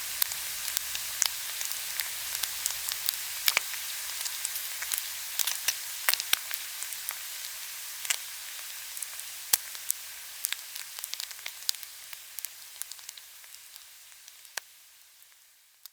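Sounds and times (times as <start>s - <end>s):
food sizzling in a pan: 0.0s - 15.9s
oil popping and crackling: 0.1s - 15.9s.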